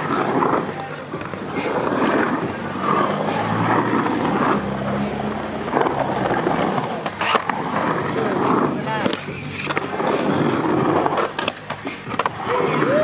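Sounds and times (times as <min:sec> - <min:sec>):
skateboard wheels rumbling on concrete: 0:00.0 - 0:13.0.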